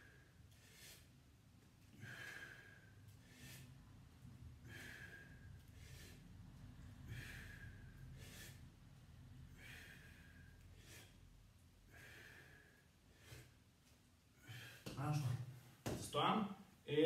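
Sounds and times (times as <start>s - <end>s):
man breathing hard: 0.0s - 13.6s, 14.4s - 14.9s.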